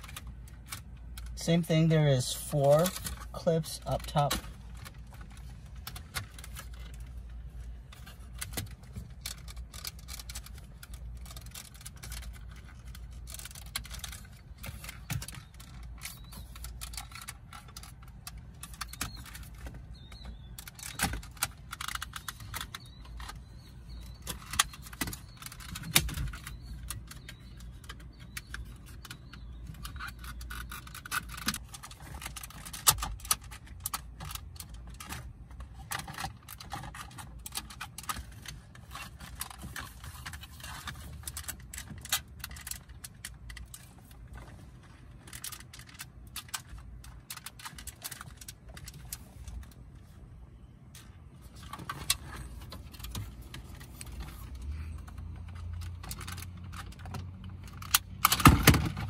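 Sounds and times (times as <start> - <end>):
plastic clicks scrapes and rattles: 0.0 - 50.1, 50.9 - 59.0.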